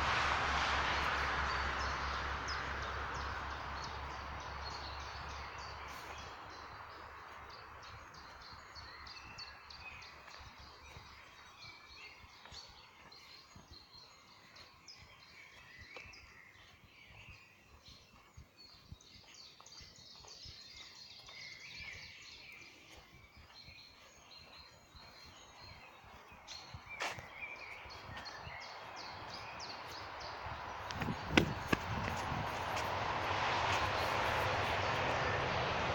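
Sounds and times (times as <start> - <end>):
small birds chirping: 0.9 - 35.9.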